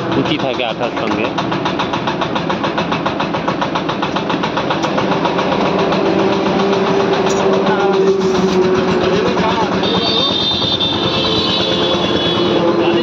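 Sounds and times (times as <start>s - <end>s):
motor running with fast throb: 0.0s - 13.0s.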